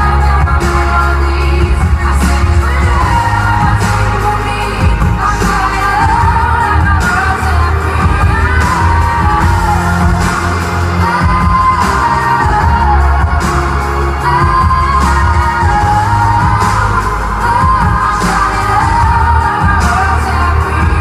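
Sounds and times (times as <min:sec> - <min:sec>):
heavy bass: 0:00.0 - 0:21.0
woman singing: 0:00.0 - 0:21.0.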